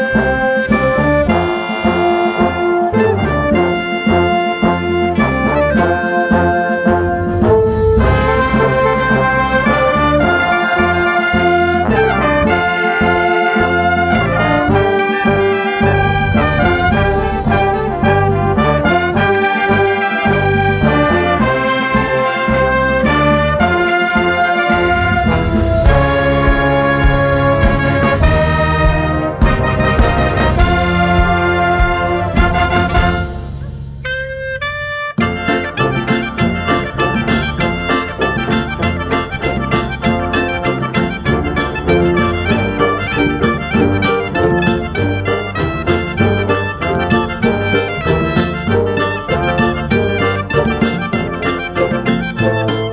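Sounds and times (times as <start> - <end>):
brass band playing: 0.0 - 52.9.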